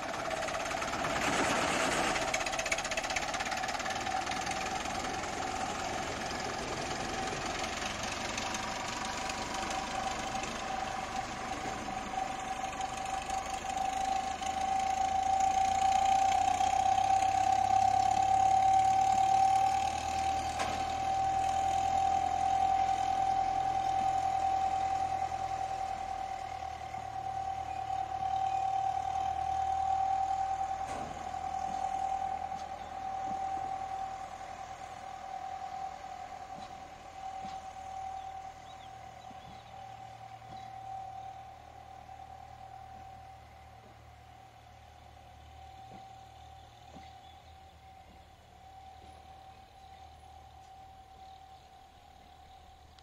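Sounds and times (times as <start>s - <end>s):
high whine: 0.0s - 53.0s.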